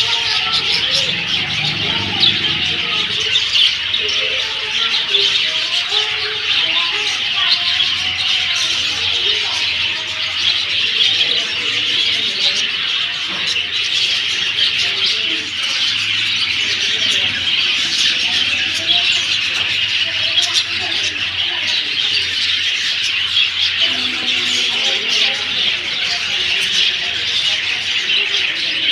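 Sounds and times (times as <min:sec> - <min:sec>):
chorus of birds chirping: 0:00.0 - 0:28.9
low-pitched bird calls: 0:00.0 - 0:28.9.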